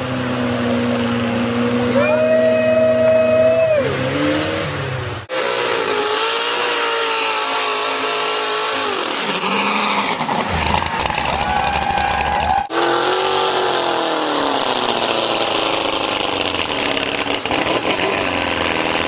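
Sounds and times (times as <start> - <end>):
truck engines revving high: 0.0 - 19.0.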